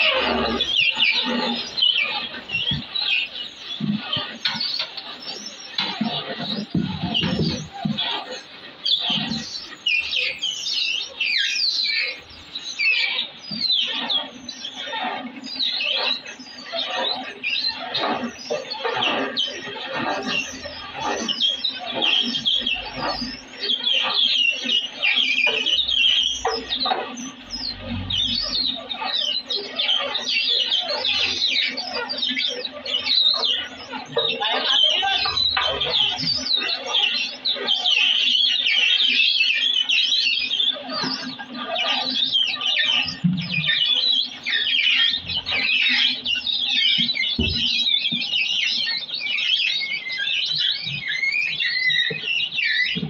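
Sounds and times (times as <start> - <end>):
high-pitched chirping: 0.0 - 53.0.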